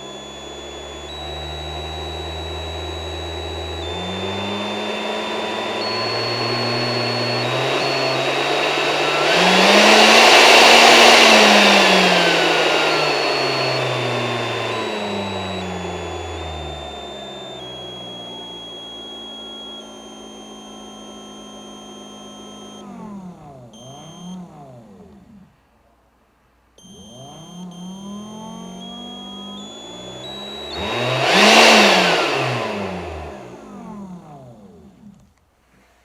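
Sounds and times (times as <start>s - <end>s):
blower motor and air rush: 0.0s - 25.4s, 26.8s - 35.2s
high-pitched electronic whine: 0.0s - 25.5s, 26.8s - 35.2s.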